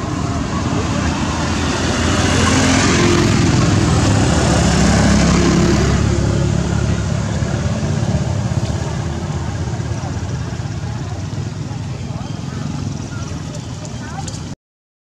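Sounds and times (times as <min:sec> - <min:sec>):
vehicle engine running: 0:00.0 - 0:14.6.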